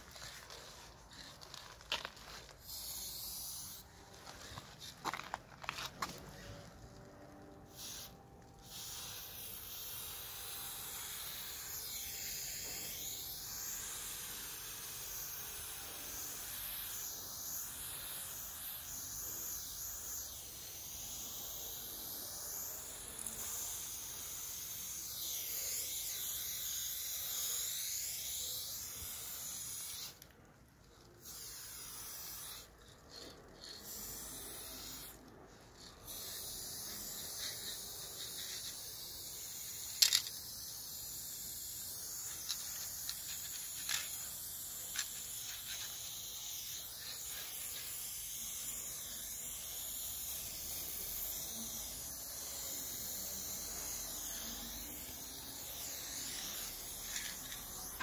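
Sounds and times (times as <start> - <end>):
spray paint can hissing: 0.0 - 30.3, 30.9 - 58.0.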